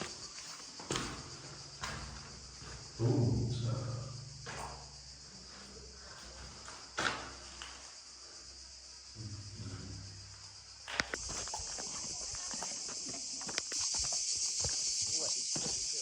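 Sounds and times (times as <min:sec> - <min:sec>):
insect chorus buzzing: 0:00.0 - 0:16.0.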